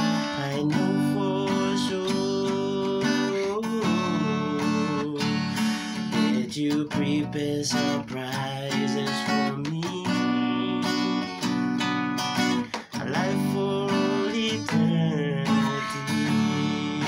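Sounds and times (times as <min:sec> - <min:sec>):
classical guitar strumming: 0:00.0 - 0:17.0.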